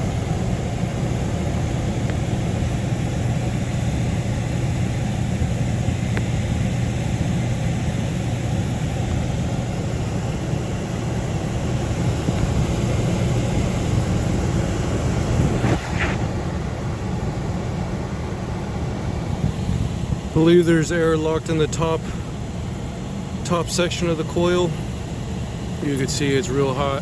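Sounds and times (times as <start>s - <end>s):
air handler humming: 0.0s - 27.0s.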